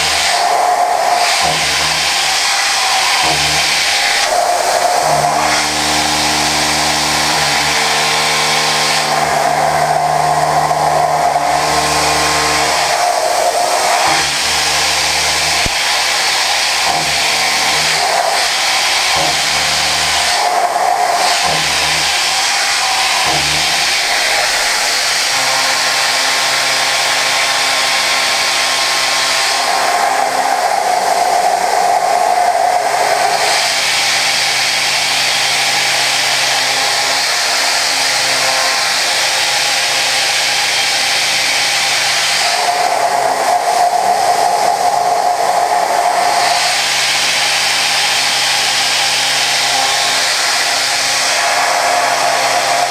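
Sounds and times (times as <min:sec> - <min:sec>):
milling machine cutting hiss: 0:00.0 - 0:52.9.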